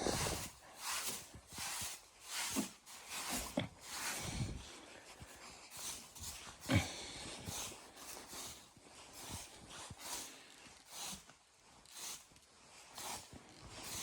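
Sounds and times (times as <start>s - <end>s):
footsteps crunching in snow: 0.0s - 14.0s.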